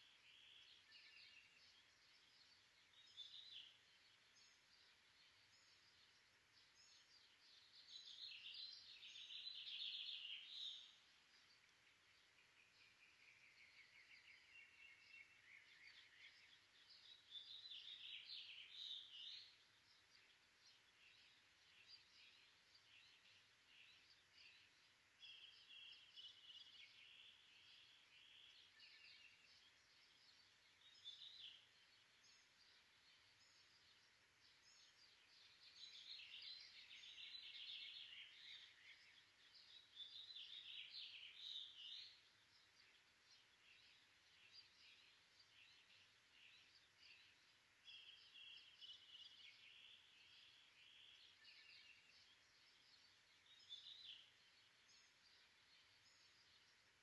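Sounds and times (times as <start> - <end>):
faint birdsong chirps and trills: 0.0 - 57.0.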